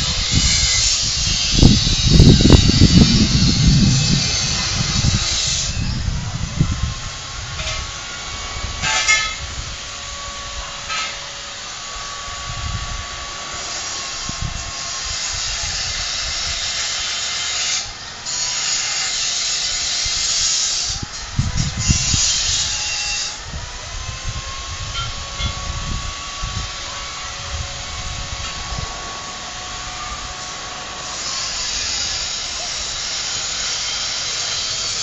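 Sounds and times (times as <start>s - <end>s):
wind rumbling on microphone: 0.0s - 16.8s, 19.9s - 35.0s
steady high hiss: 0.0s - 35.0s.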